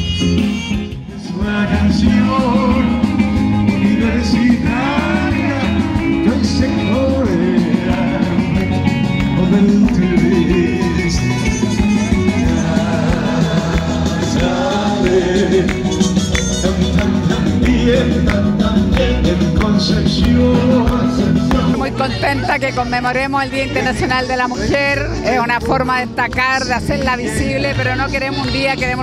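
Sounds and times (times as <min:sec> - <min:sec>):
live band music with singing: 0:00.0 - 0:29.0.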